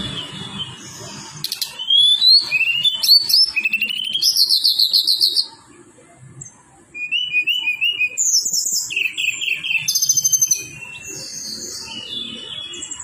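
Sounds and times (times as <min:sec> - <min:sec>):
bird singing whistled trills: 0:00.0 - 0:05.5, 0:07.0 - 0:13.0.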